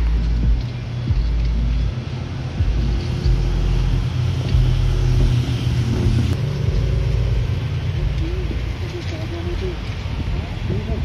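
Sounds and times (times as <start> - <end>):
car driving by: 0.0 - 10.3
motorcycles driving by: 0.0 - 11.0.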